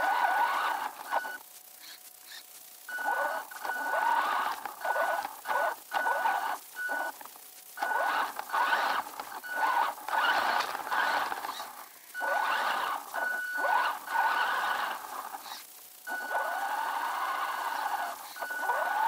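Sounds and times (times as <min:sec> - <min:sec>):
toy truck motor whining: 0:00.0 - 0:07.2, 0:07.8 - 0:19.0
thin high whine: 0:00.0 - 0:19.0.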